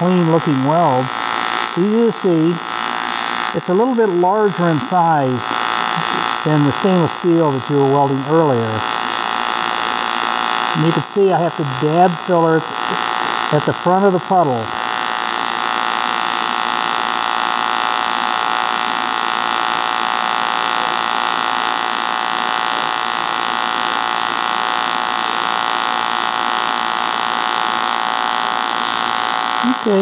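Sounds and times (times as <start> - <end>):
welding arc buzzing: 0.0 - 30.0.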